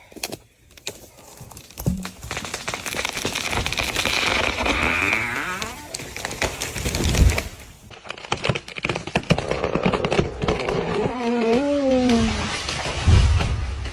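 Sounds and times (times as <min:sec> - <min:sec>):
wood cracking and snapping: 0:00.1 - 0:13.9.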